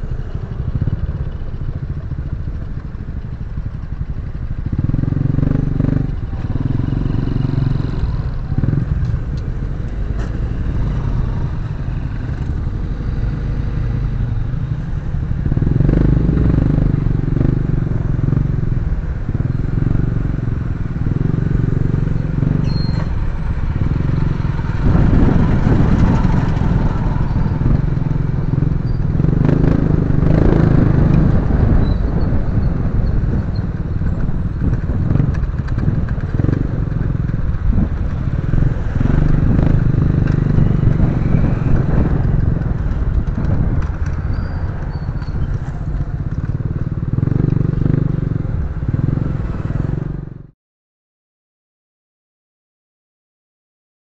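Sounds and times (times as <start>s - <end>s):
motorcycle engine revving: 0.0s - 50.5s
road noise: 0.0s - 50.5s.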